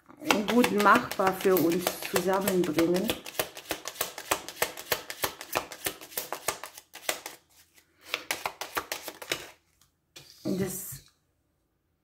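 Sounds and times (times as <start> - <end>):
cards being shuffled: 0.3 - 10.5.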